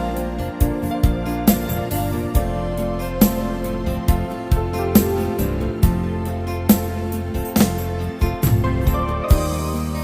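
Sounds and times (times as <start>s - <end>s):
gentle instrumental music: 0.0s - 10.0s.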